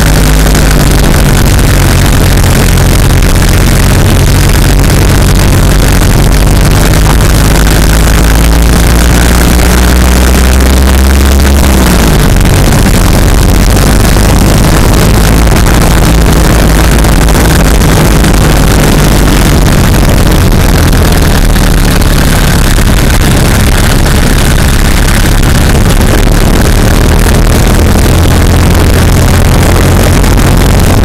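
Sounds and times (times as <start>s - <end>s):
tyre and road noise: 0.0s - 31.0s
vehicle engine drone: 0.0s - 31.0s.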